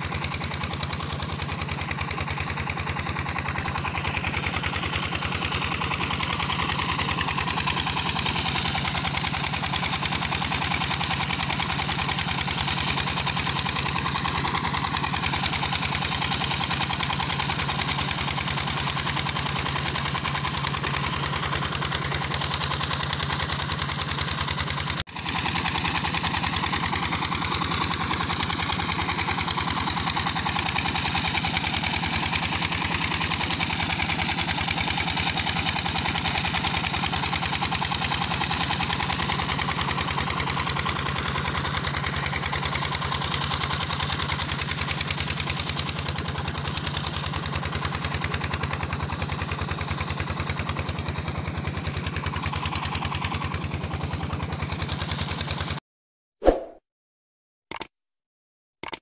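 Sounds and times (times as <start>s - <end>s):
diesel engine chugging: 0.0s - 55.8s.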